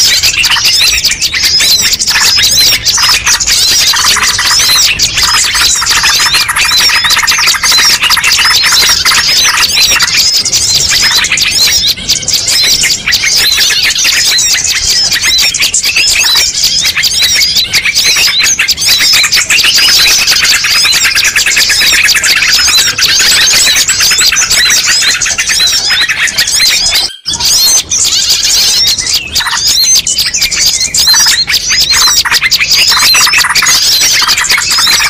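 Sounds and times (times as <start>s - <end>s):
songbirds chirping and twittering: 0.0s - 35.0s.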